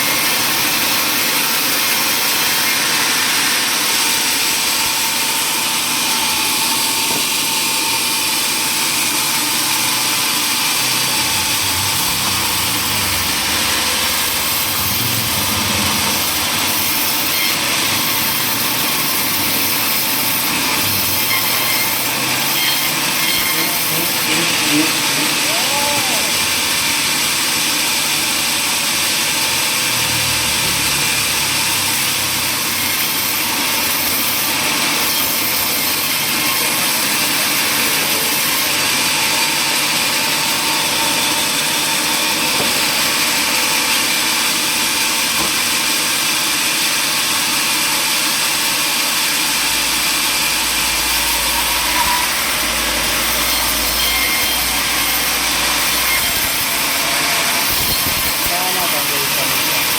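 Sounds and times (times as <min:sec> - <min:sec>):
power saw cutting wood: 0:00.0 - 0:59.9.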